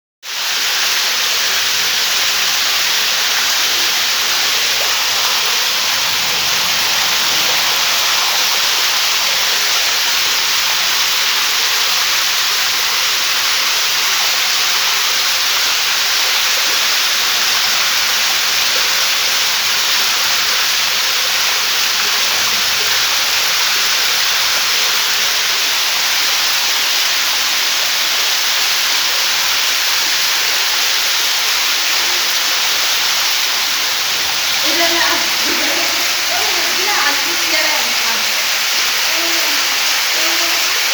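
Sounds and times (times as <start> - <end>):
heavy rain pouring: 0.3 - 40.9.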